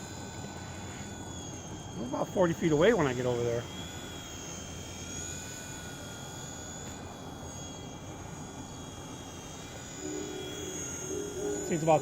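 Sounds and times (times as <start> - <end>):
toy helicopter rotors whining: 0.0 - 12.0.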